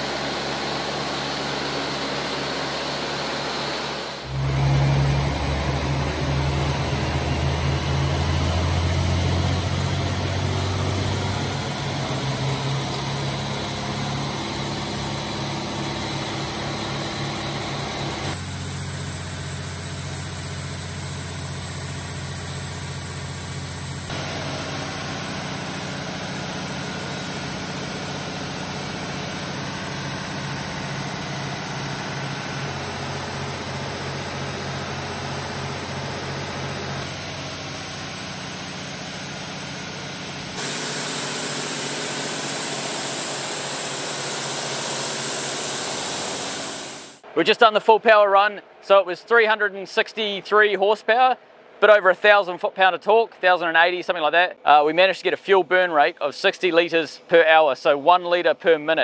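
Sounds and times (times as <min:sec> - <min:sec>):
diesel engine droning: 0:00.0 - 0:47.3.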